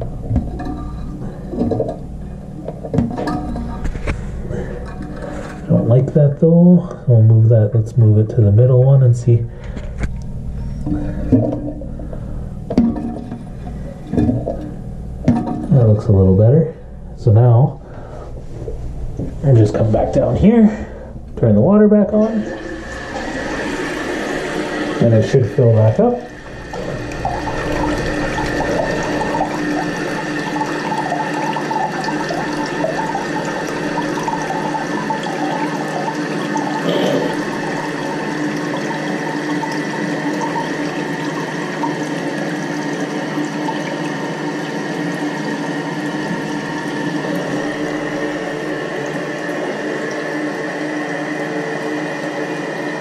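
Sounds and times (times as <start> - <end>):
toilet tank refilling: 0.0 - 53.0.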